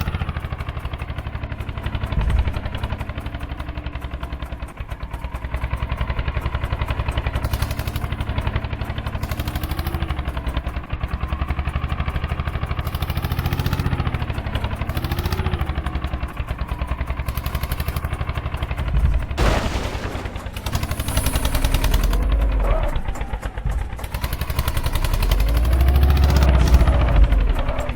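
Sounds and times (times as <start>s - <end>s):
tractor diesel engine thumping: 0.0s - 10.7s, 14.4s - 27.9s.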